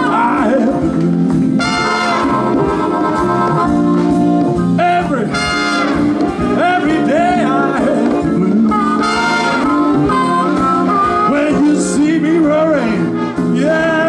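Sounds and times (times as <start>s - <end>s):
live band playing jazz-blues: 0.0s - 14.0s.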